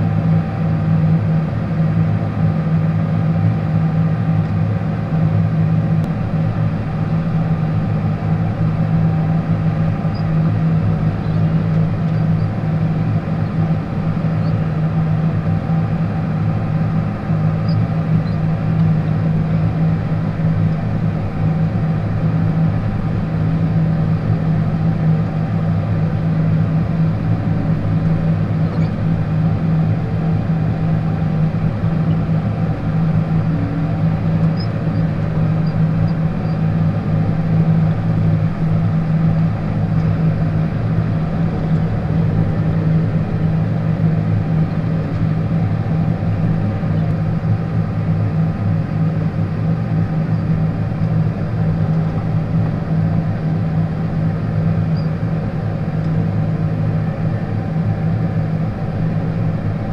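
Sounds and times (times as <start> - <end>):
tractor diesel engine drone: 0.0 - 59.9.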